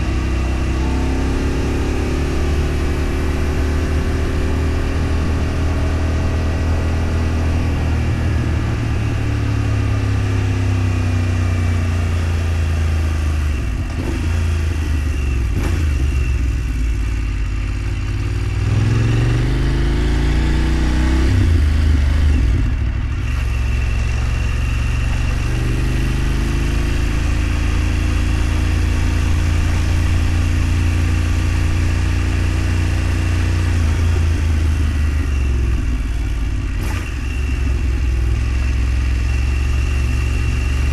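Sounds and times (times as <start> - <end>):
vehicle engine droning: 0.0 - 40.9.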